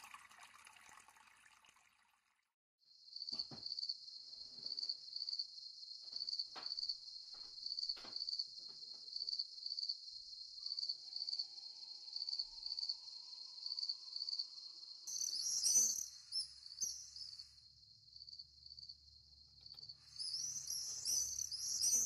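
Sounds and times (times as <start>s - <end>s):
insects chirring: 3.1s - 22.0s.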